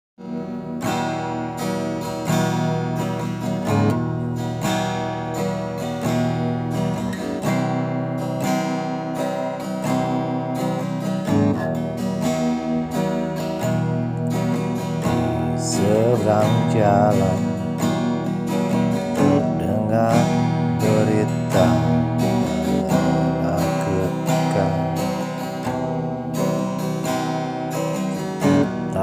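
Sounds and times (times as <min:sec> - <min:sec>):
acoustic guitar strumming: 0:00.2 - 0:29.0.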